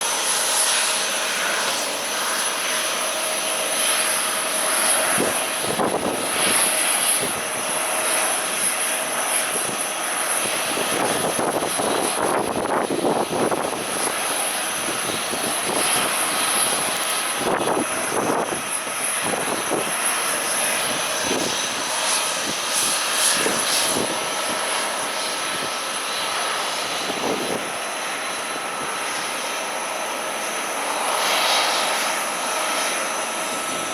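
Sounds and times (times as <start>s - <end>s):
airliner engines whining: 0.0s - 33.9s
wind gusting on microphone: 3.8s - 30.0s, 30.8s - 33.9s.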